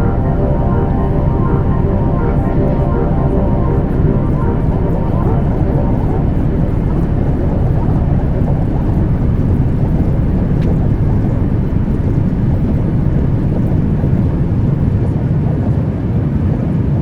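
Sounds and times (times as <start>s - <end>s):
airplane cabin noise: 0.0s - 16.7s.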